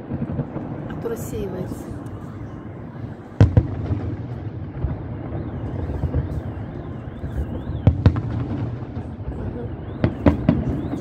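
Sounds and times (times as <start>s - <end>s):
small fireworks pops: 0.0s - 2.5s, 3.4s - 11.0s
fireworks booms: 0.0s - 11.0s.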